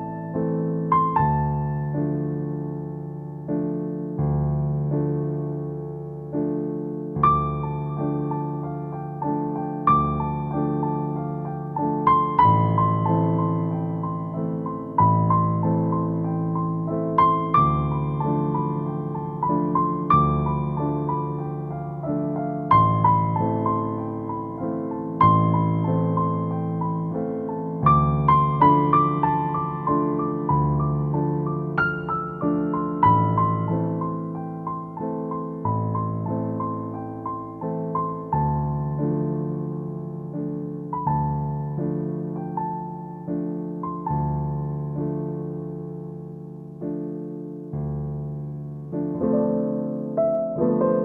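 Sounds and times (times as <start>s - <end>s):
gentle piano melody: 0.0s - 51.0s.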